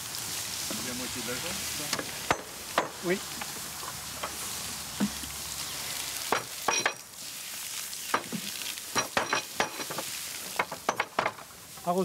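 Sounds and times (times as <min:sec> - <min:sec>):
water hissing on hot iron: 0:00.0 - 0:12.0.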